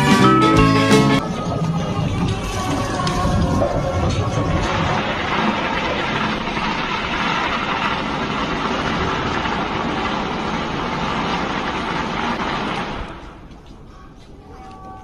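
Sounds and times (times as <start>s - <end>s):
firecrackers crackling: 1.2s - 13.8s.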